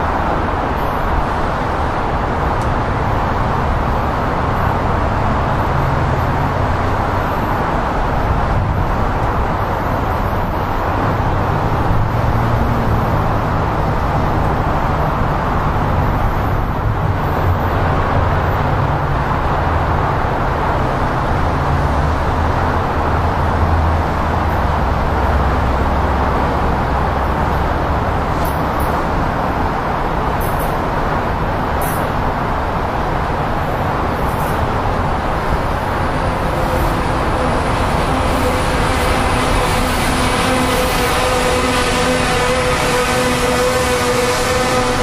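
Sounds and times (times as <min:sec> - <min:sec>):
train rail rumble: 0:00.0 - 0:45.0.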